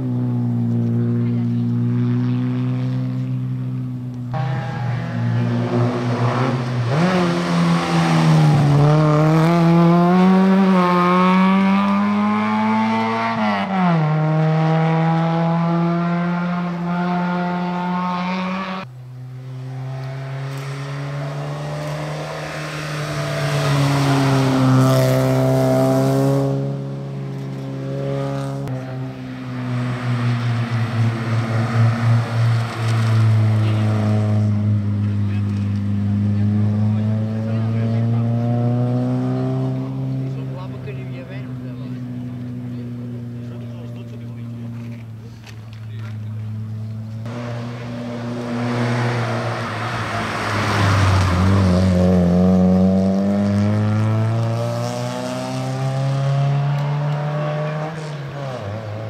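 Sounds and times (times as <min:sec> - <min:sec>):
rally car engines running: 0:00.0 - 0:59.0.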